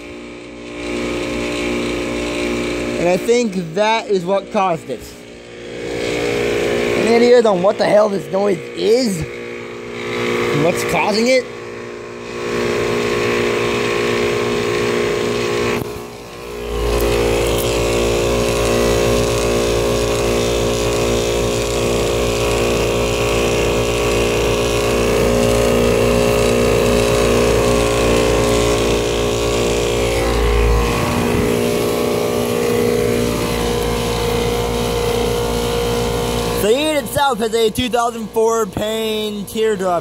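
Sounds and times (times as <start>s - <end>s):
air conditioner humming drone: 0.0s - 40.0s.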